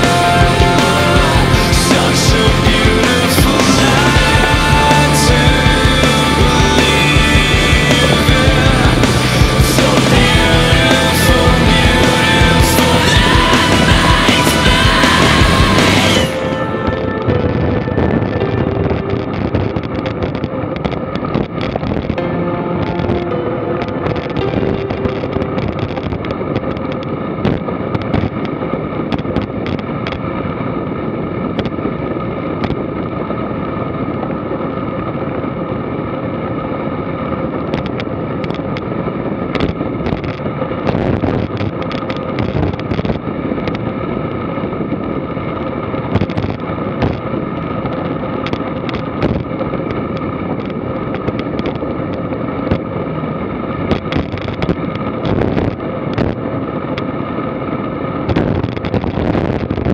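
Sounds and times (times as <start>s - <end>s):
constant hum: 0.0s - 59.9s
wind and road noise rushing: 0.0s - 59.9s.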